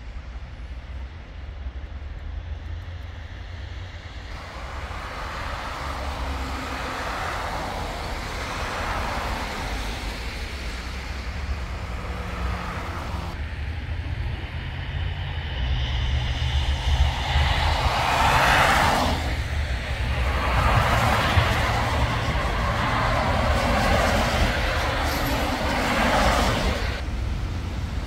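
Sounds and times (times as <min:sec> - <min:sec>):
vehicles passing: 0:00.0 - 0:28.0.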